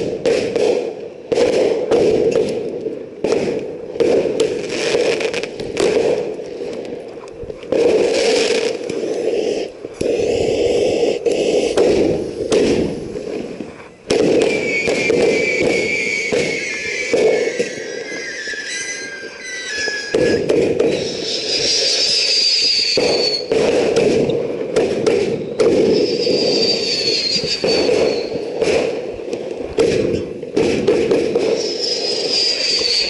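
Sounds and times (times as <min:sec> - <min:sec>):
firework crackling and popping: 0:00.0 - 0:33.0.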